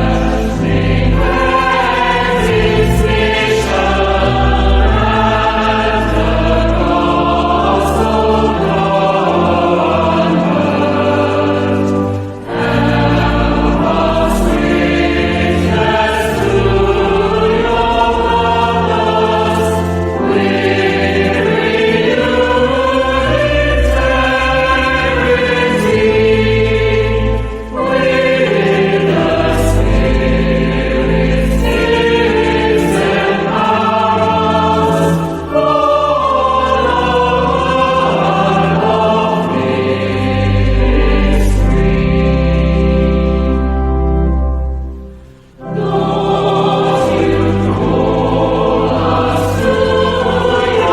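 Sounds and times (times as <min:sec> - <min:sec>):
choir singing a hymn: 0:00.0 - 0:50.9
sustained accompaniment: 0:00.0 - 0:50.9.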